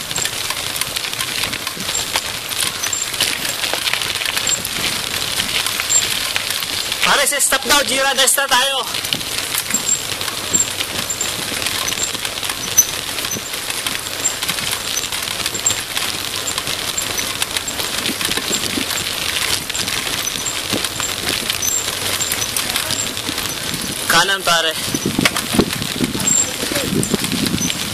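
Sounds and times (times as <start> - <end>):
small clicks and knocks: 0.0 - 7.1, 9.0 - 24.1, 24.8 - 27.9
bike tyres crunching on gravel: 0.0 - 27.9.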